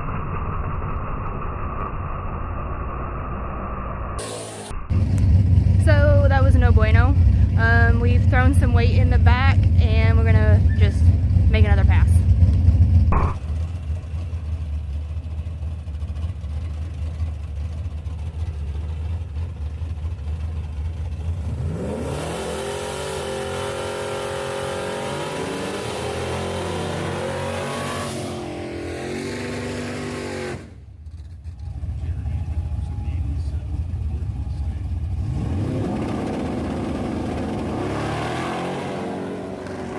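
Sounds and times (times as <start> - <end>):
truck engine revving: 4.2 - 39.9.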